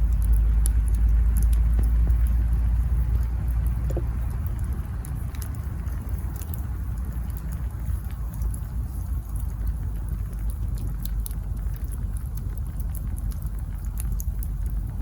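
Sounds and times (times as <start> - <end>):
burning logs crackling and popping: 0.0 - 15.0
campfire flames rumbling: 0.0 - 15.0.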